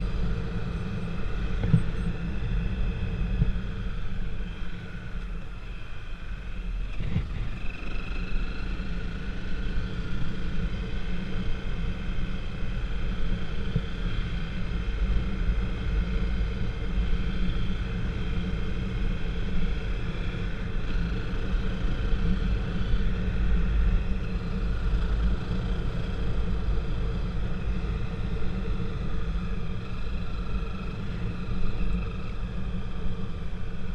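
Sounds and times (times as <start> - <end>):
faint steady tones: 0.0 - 33.9
vehicle low rumble: 0.0 - 33.9.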